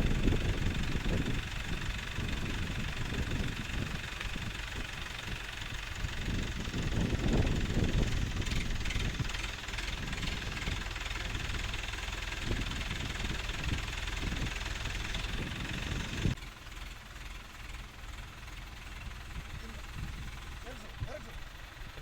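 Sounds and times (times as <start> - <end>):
concrete mixer engine running: 0.0 - 22.0.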